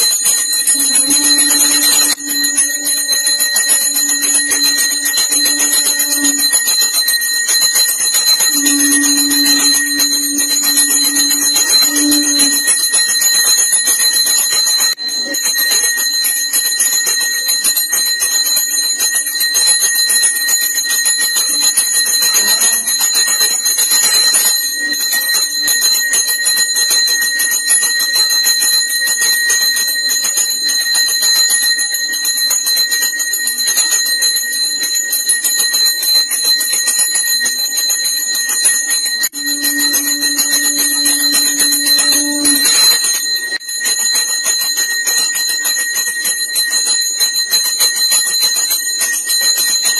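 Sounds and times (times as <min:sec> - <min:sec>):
bell rung rapidly: 0:00.0 - 0:49.9.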